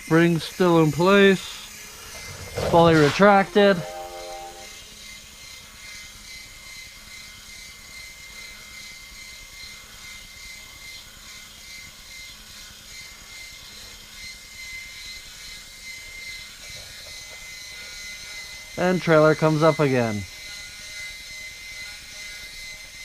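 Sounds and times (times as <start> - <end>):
small electric motor whining: 0.0 - 23.0.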